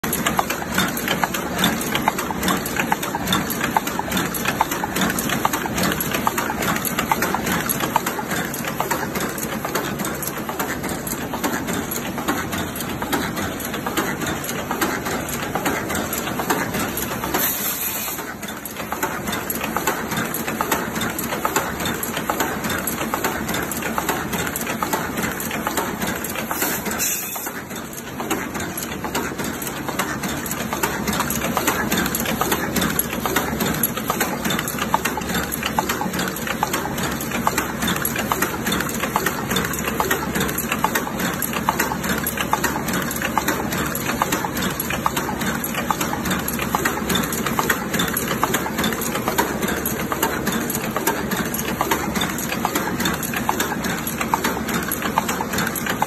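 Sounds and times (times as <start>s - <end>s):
machine clattering: 0.0s - 56.0s.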